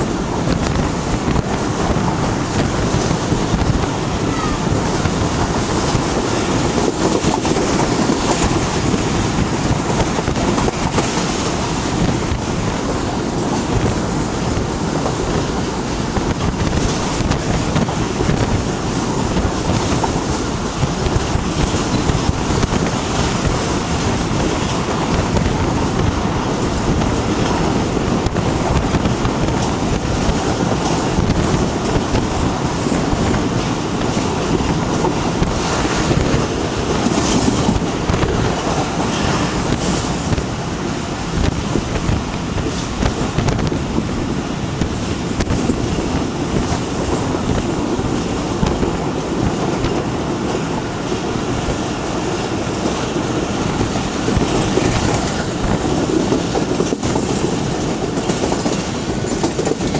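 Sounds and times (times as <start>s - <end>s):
train wheels rumbling on rails: 0.0s - 59.9s
wind buffeting microphone: 0.0s - 59.9s.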